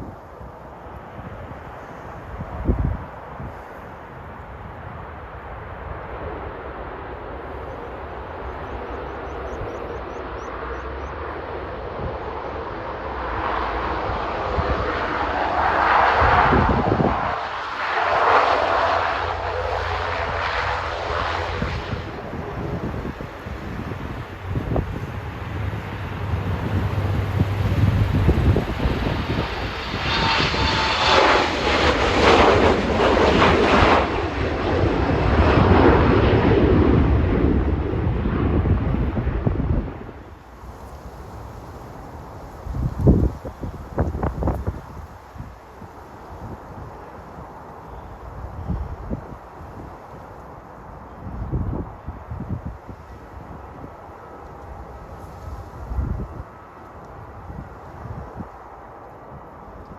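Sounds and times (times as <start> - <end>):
airliner engines rushing: 0.0 - 59.9
wind rumbling on microphone: 0.0 - 59.9.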